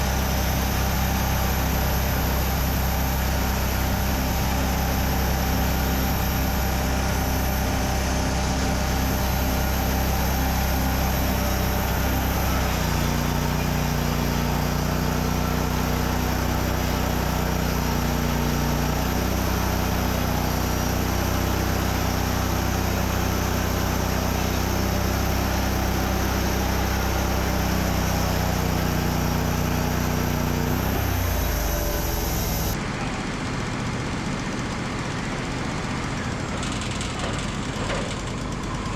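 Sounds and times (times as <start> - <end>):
band blade sawing log: 0.0 - 32.8
sawmill engine running: 0.0 - 38.9.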